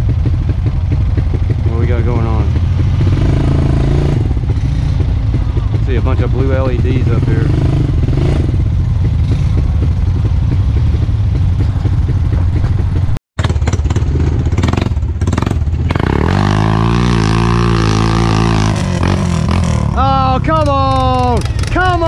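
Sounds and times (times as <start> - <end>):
low engine rumble: 0.0 - 16.0, 16.6 - 22.0
atv engine revving: 0.0 - 22.0.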